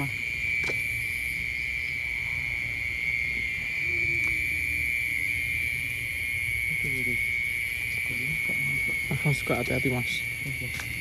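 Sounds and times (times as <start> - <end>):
chirring of night insects: 0.0 - 11.0.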